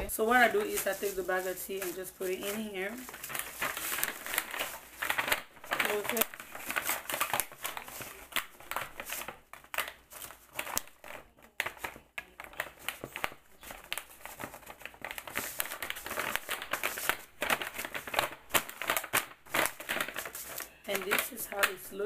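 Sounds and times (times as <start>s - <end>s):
paper envelope crinkling: 0.0s - 22.0s.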